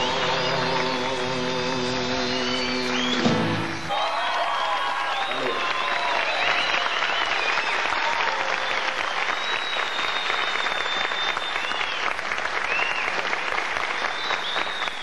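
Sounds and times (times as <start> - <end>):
audience clapping: 0.0 - 15.0
crowd whistling: 0.0 - 15.0.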